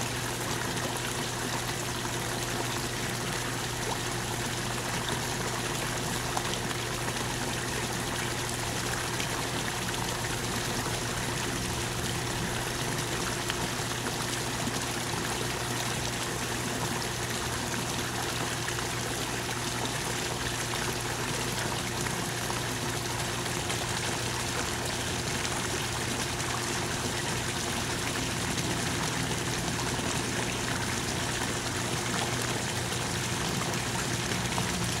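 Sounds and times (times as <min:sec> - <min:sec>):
water trickling: 0:00.0 - 0:35.0.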